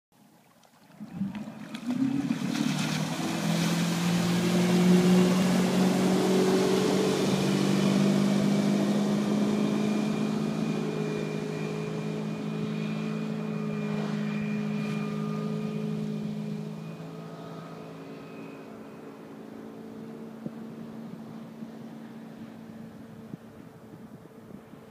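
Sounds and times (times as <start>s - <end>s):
water rushing from hull: 0.2s - 24.9s
boat engine revving: 0.9s - 24.9s.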